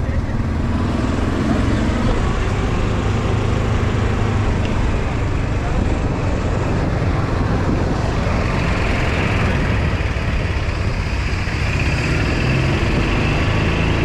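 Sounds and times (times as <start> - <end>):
golf cart driving: 0.0 - 14.0.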